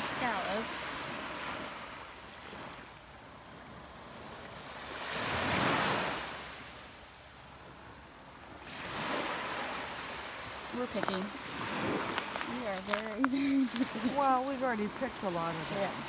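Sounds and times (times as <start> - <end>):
ocean surf washing onto beach: 0.0 - 16.0.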